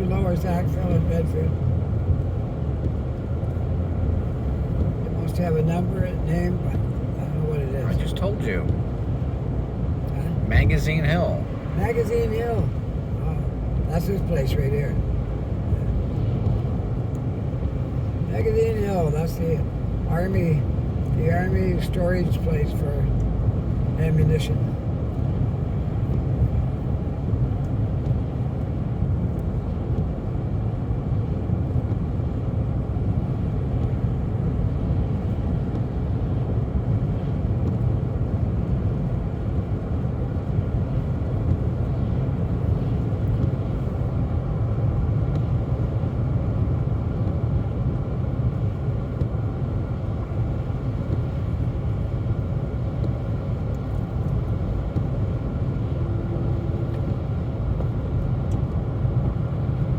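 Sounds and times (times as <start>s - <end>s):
car cabin road and engine noise: 0.0s - 59.9s.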